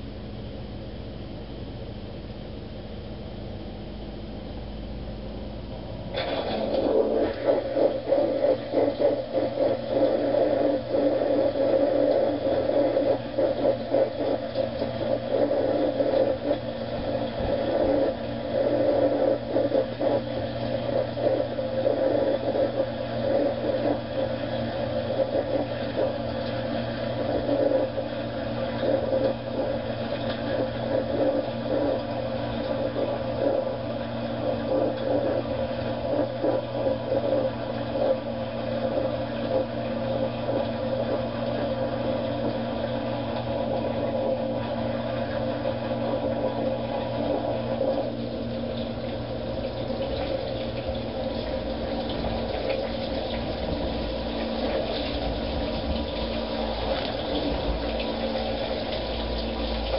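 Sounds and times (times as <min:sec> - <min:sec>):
dishwasher motor hum: 0:00.0 - 0:59.9
churning wash noise: 0:06.1 - 0:59.9.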